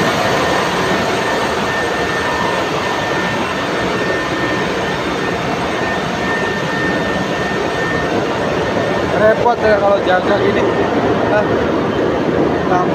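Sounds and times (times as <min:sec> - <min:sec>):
engine room machinery din: 0:00.0 - 0:12.9
thin steady whine: 0:00.0 - 0:12.9.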